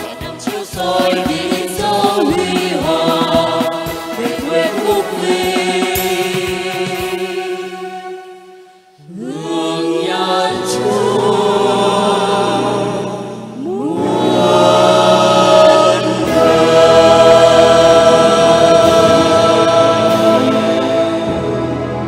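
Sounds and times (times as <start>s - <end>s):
mixed choir singing a hymn: 0.0s - 8.4s, 9.0s - 22.0s.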